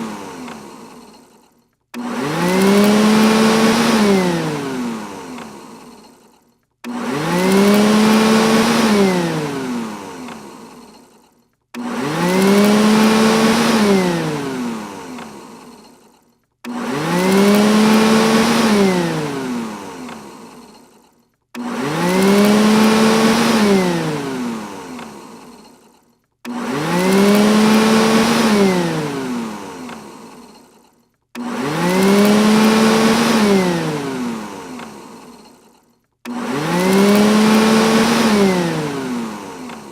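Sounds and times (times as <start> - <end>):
robot vacuum motor whirring: 0.0 - 39.9.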